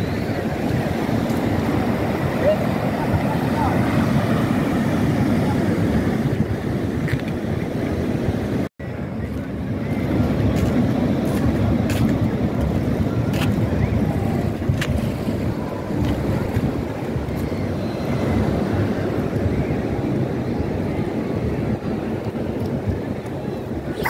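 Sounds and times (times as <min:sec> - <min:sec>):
sea surf: 0:00.0 - 0:24.0
wind buffeting microphone: 0:00.0 - 0:24.0.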